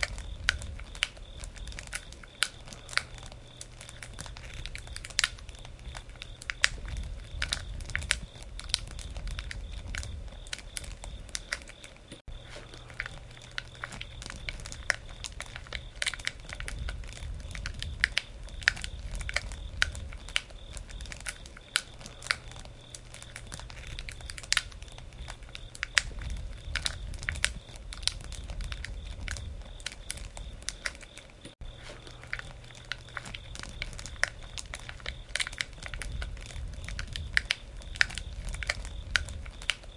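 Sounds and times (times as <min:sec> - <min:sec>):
wood campfire crackling: 0:00.0 - 0:39.9.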